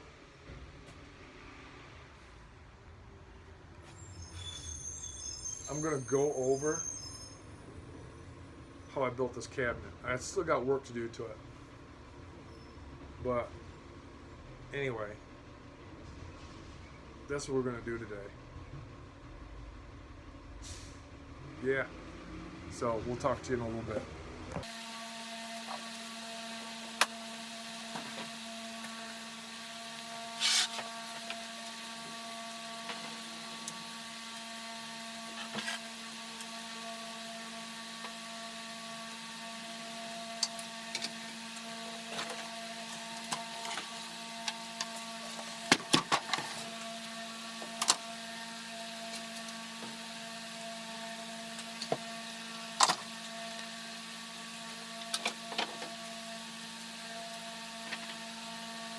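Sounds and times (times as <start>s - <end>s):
steady mechanical hum: 0.0s - 58.9s.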